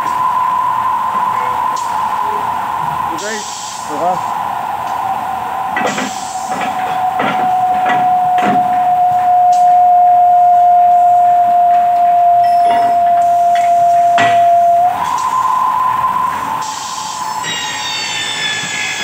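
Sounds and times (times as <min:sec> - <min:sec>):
milling machine high whine: 0:00.0 - 0:19.0.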